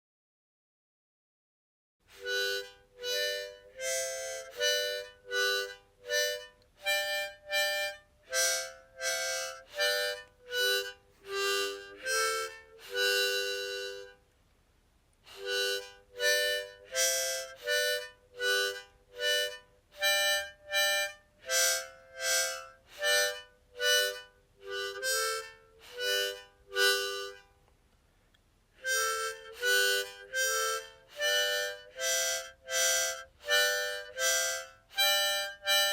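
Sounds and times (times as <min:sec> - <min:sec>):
harmonica melody: 0:02.1 - 0:14.3, 0:15.3 - 0:27.6, 0:28.8 - 0:35.9.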